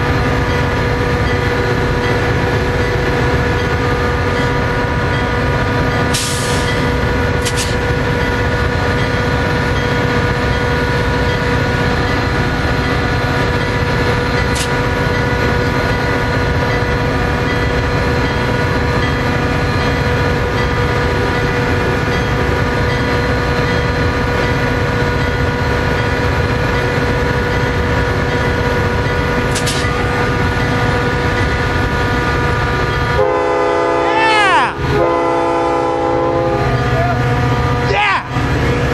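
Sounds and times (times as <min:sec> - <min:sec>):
diesel passenger train droning: 0:00.0 - 0:38.9.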